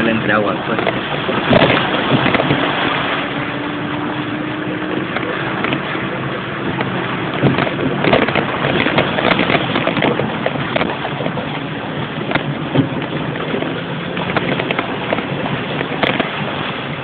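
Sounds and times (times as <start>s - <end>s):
faint engine running: 0.0s - 17.0s
water splashing: 0.0s - 17.0s.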